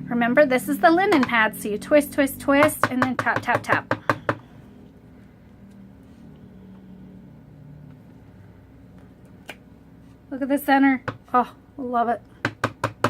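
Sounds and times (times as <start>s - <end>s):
low steady hum: 0.0s - 12.6s.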